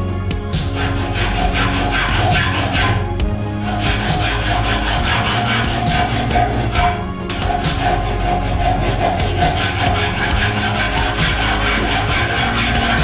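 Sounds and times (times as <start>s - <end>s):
hand file rasping on steel: 0.6s - 13.0s.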